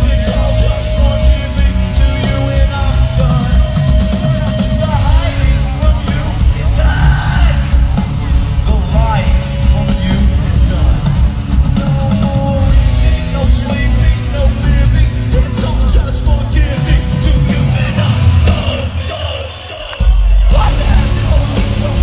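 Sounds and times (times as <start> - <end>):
distorted guitars: 0.0 - 22.0
drums: 0.0 - 22.0
person shouting and singing: 0.0 - 22.0.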